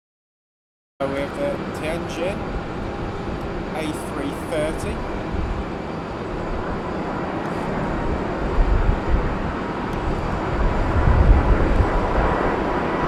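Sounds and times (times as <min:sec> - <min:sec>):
jet engines rushing: 0:01.0 - 0:13.0.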